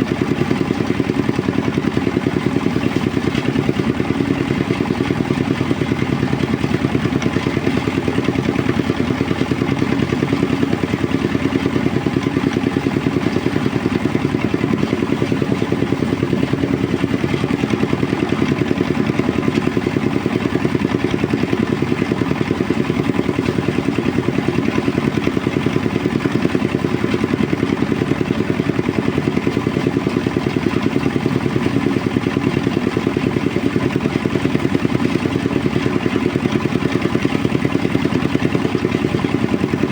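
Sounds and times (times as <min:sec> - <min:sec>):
threshing machine chugging: 0:00.0 - 0:39.9.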